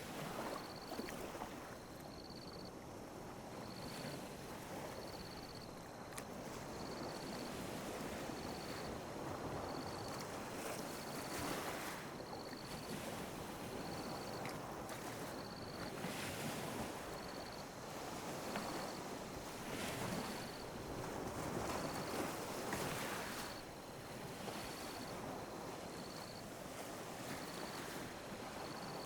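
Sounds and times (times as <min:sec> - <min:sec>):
small waves lapping on a beach: 0:00.0 - 0:29.0.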